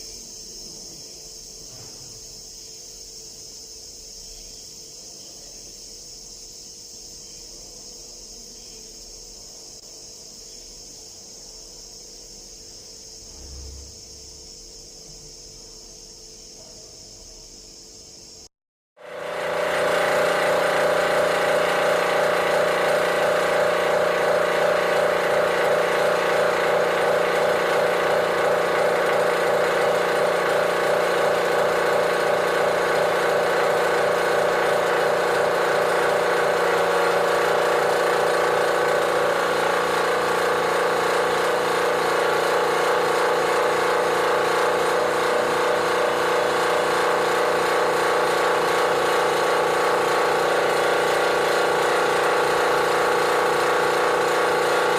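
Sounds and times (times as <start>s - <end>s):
air compressor running: 0.0s - 54.9s.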